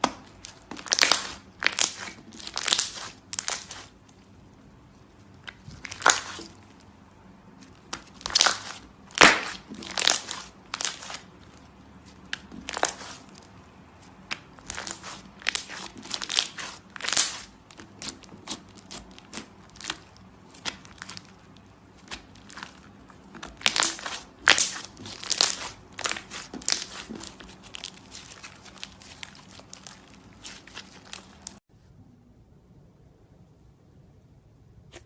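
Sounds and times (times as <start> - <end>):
slime crackling and popping: 0.0 - 4.4, 5.2 - 31.6.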